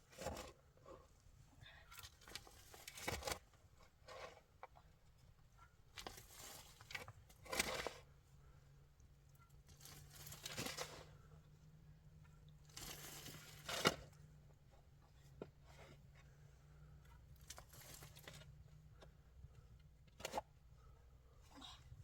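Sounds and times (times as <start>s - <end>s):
crunching and rustling handling noises: 2.0s - 8.5s, 9.1s - 21.5s.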